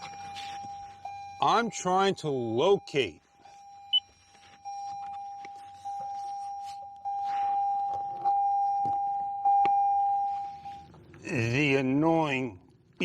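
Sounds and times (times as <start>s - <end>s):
car warning chime beeping: 0.0s - 11.4s.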